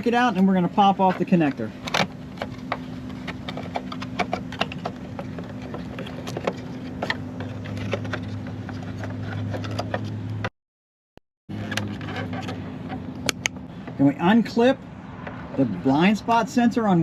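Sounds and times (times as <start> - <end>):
steady low hum: 0.0 - 10.5, 11.5 - 17.0.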